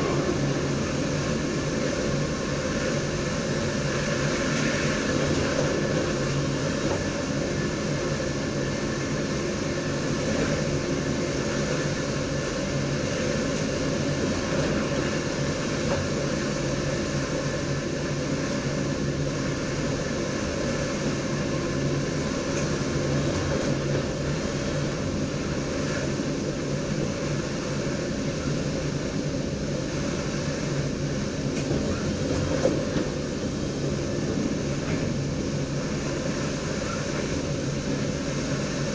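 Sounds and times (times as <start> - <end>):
train low hum: 0.0 - 38.9
wheels rumbling on rail: 0.0 - 38.9.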